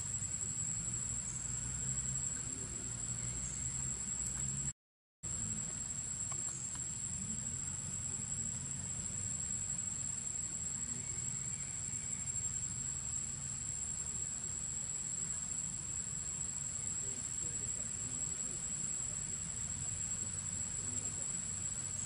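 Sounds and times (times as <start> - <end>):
high-pitched insect drone: 0.0 - 4.7, 5.3 - 22.0.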